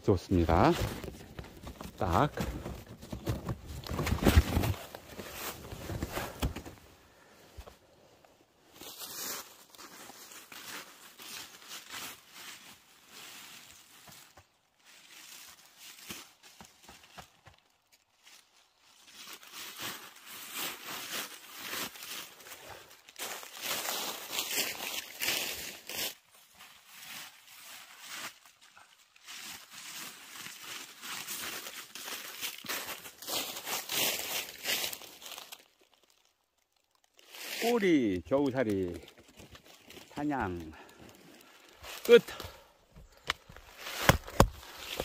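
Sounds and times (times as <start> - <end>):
rustling and crinkling: 0.3 - 45.0.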